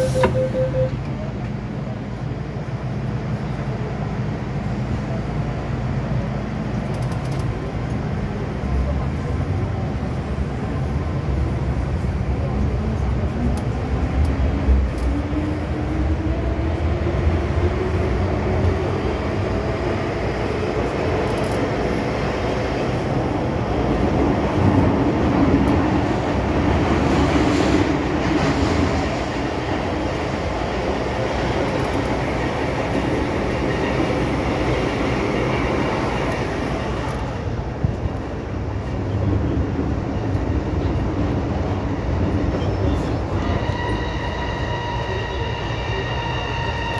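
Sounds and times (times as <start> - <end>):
train rumble and rail noise: 0.0 - 46.9.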